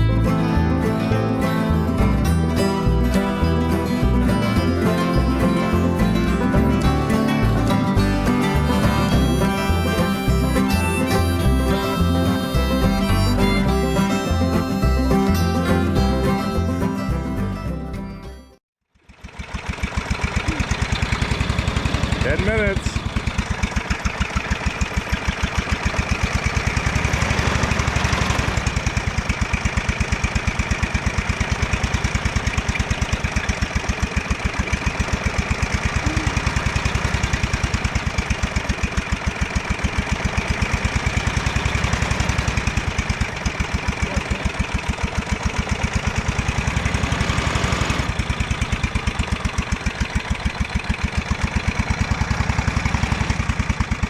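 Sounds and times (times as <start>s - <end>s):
lawn tractor engine running: 0.0s - 54.0s.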